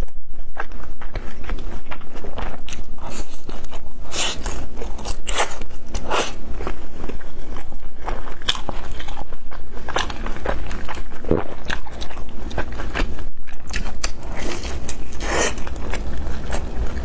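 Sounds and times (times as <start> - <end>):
crunchy biting and chewing: 0.5 - 17.0.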